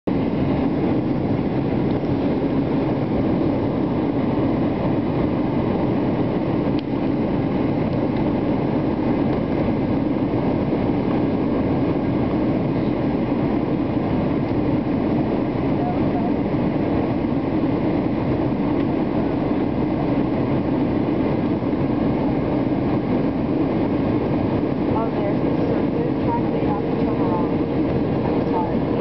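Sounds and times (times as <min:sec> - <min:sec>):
airplane cabin engine rumble: 0:00.0 - 0:29.0.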